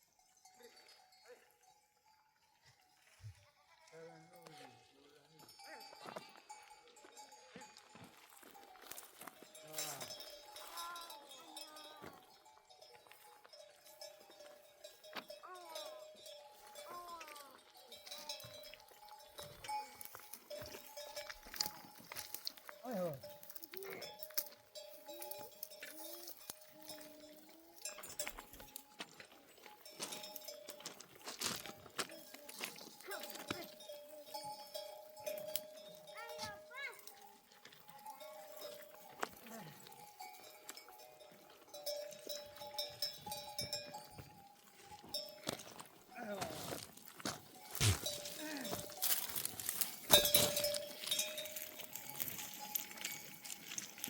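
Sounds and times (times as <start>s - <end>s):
animal bells ringing: 0.0s - 54.0s.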